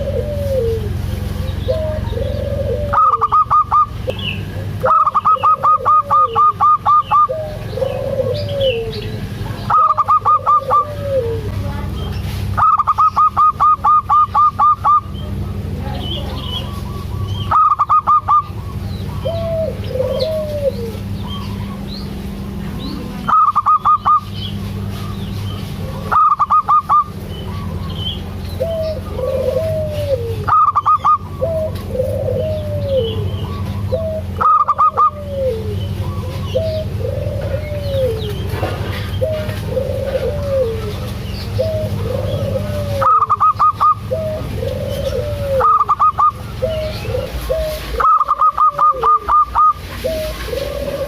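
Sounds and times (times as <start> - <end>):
doves cooing: 0.0 - 51.0.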